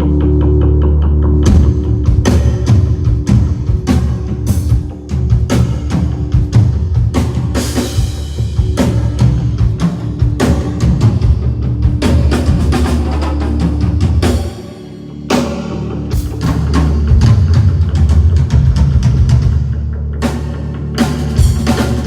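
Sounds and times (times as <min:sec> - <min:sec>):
rock band playing live: 0:00.0 - 0:22.0
steady bass line: 0:00.0 - 0:22.0
drum kit hits: 0:01.5 - 0:22.0.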